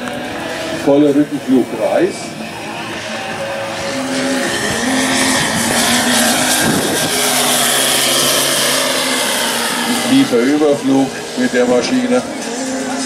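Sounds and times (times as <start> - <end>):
model plane engine passing: 0.0 - 13.0.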